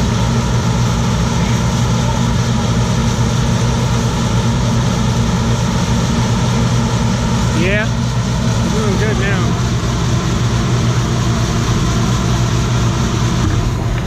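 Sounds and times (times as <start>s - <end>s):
combine harvester engine droning: 0.0s - 14.0s.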